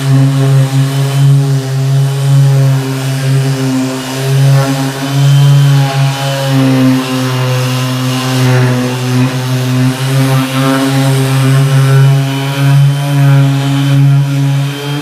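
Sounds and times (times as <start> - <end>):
orbit sander sanding wood: 0.0 - 15.0.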